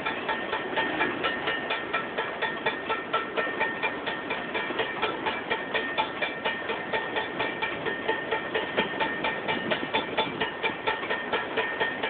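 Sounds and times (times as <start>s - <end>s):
crossing signal bell ringing: 0.0s - 12.0s
freight train boxcars rolling: 0.0s - 12.0s.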